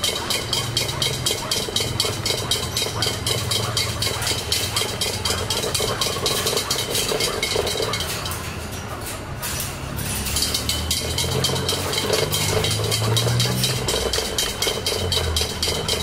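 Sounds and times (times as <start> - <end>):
metal exercise wheel clattering: 0.0 - 16.0.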